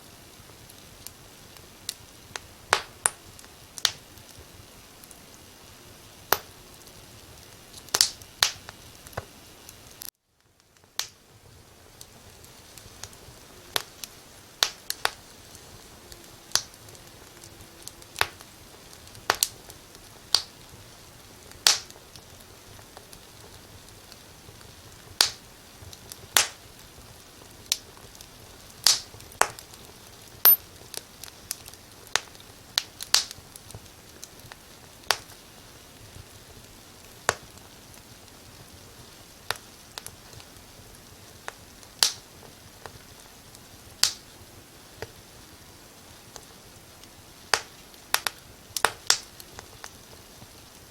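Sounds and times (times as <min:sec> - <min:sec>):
faint steady hiss: 0:00.0 - 0:50.9
wood fire crackling: 0:00.0 - 0:50.9.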